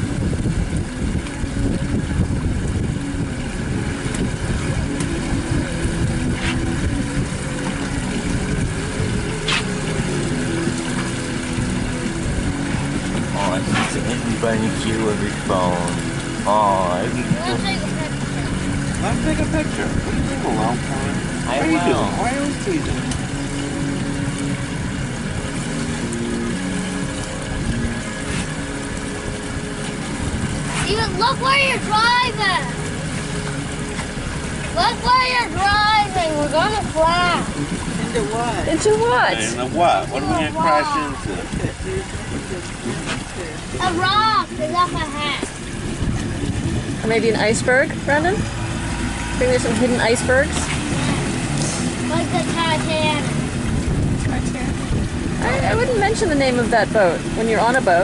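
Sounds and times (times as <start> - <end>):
boat motor running: 0.0 - 58.0
wind and water rushing: 0.0 - 58.0.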